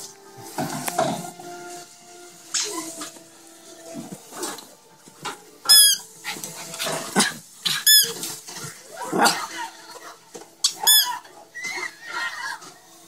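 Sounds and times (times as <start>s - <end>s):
dogs scuffling: 0.0s - 13.0s.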